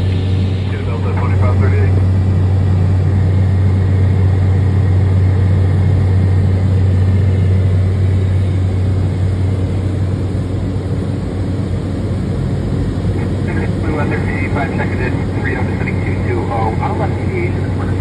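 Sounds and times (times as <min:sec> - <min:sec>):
turboprop engine droning: 0:00.0 - 0:18.0.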